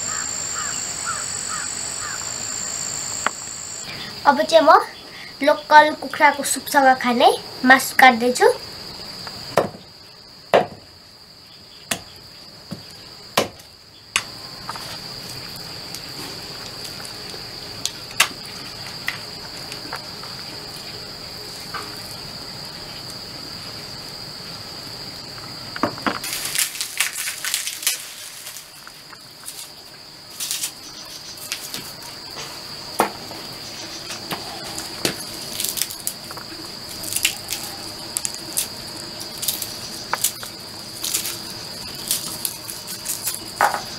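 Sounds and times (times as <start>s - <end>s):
high-pitched insect drone: 0.0s - 10.4s, 11.2s - 43.9s.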